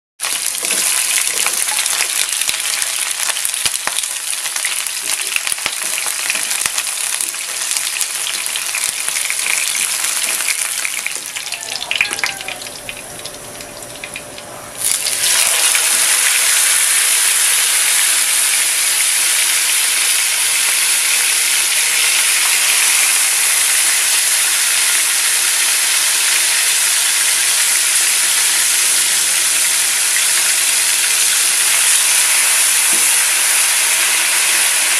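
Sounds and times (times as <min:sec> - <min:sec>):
food sizzling in hot oil: 0:00.2 - 0:34.9.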